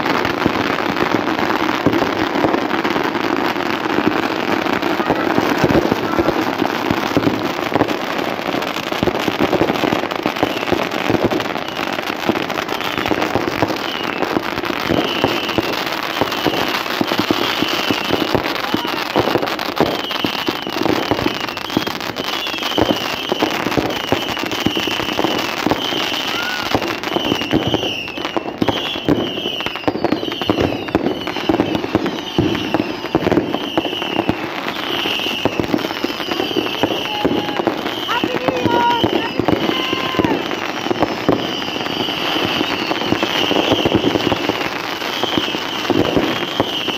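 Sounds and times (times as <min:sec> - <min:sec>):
faint firework whistles: 0:00.0 - 0:46.9
fireworks popping and crackling: 0:00.0 - 0:46.9.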